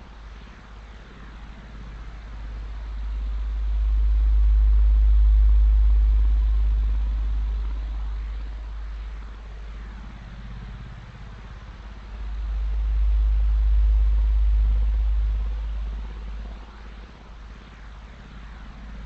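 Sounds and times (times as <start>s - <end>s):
deep synthesized drone: 0.0s - 19.0s.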